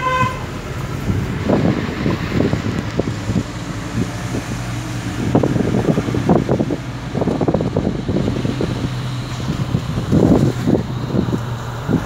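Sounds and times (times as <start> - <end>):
car engine and road noise: 0.0 - 12.0
low bumps and rumbles: 0.0 - 12.0.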